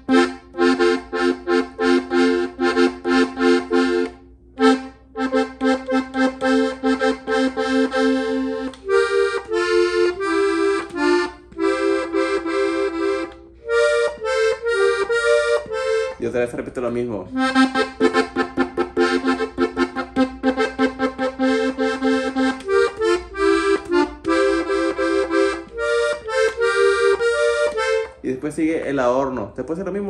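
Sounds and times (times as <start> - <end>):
button accordion fast melody: 0.0 - 28.3.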